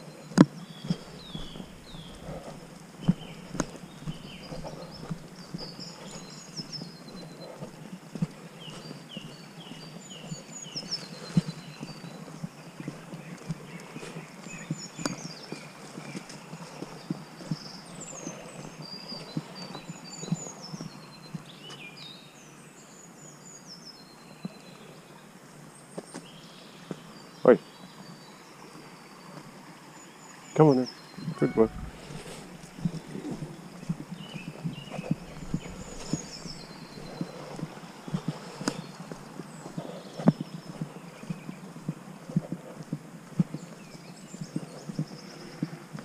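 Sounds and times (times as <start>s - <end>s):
footsteps on dirt path: 0.0s - 22.2s, 31.2s - 46.0s
birds singing: 0.0s - 42.8s, 43.4s - 46.0s
songbirds chirping: 0.0s - 46.0s.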